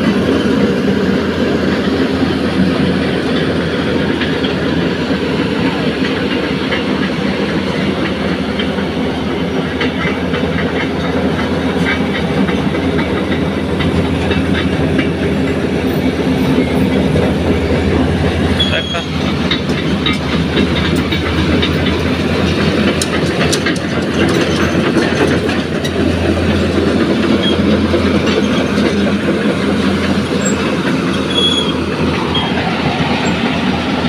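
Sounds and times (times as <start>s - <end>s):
diesel excavator engine running: 0.0s - 34.0s
steel track links clattering: 0.0s - 34.0s.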